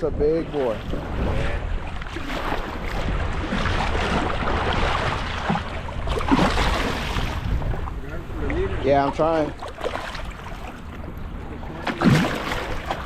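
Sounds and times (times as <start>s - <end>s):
waves splashing on choppy water: 0.0s - 13.0s
wind buffeting microphone: 0.0s - 13.0s.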